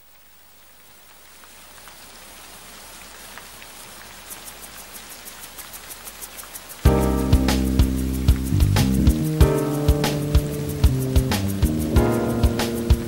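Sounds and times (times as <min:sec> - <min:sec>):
rain falling: 0:00.0 - 0:13.0
raindrop ticks: 0:00.0 - 0:13.0.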